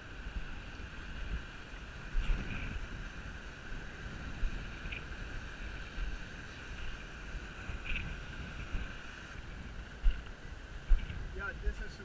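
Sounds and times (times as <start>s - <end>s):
steady high hiss: 0.0s - 12.0s
wind buffeting microphone: 0.0s - 12.0s.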